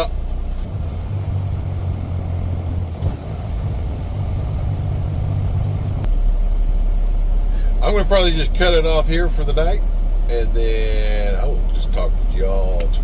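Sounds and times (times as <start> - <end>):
truck diesel engine pulling away: 0.0 - 13.0.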